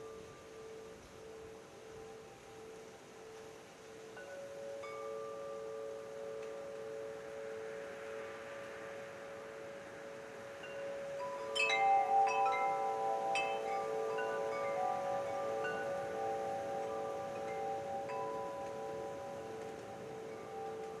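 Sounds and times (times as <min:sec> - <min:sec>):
wind chimes ringing: 0:00.0 - 0:21.0.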